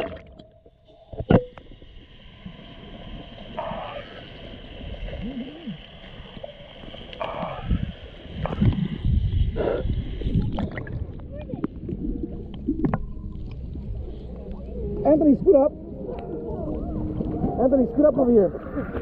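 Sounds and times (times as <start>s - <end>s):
underwater rumble and gurgling: 0.0s - 19.0s.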